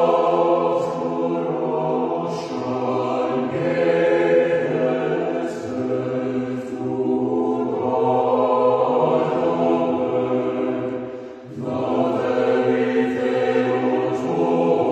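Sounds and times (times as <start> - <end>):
choir chanting held notes: 0.0 - 14.9.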